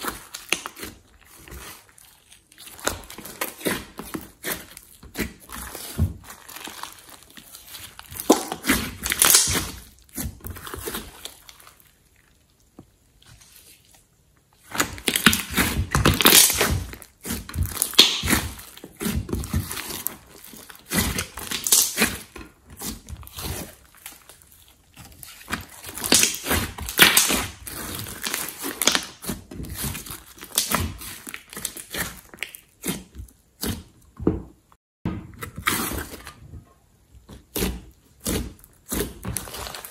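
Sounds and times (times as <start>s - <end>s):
slime squishing and popping: 0.0s - 12.8s, 14.6s - 33.9s, 37.3s - 39.9s.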